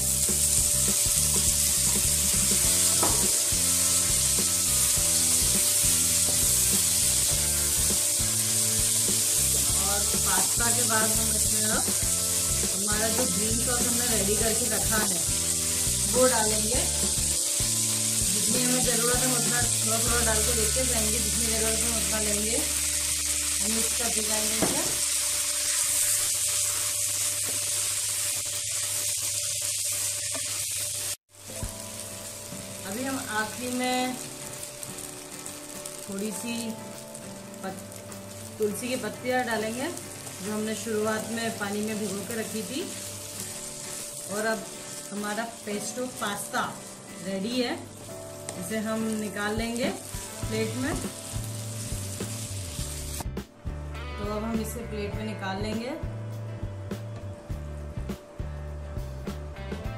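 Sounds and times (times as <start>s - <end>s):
pasta sizzling in hot oil: 0.0s - 53.4s.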